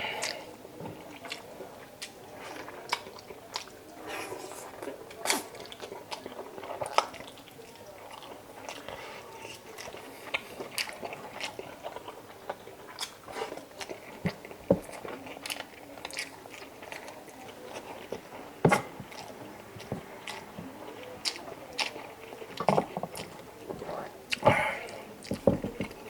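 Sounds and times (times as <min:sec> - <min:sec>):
chewing and biting food: 0:00.2 - 0:26.0.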